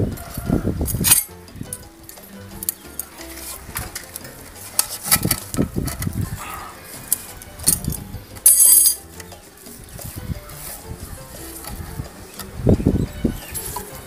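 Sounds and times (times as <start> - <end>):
wire twisting clicks and scrapes: 0.2 - 12.7.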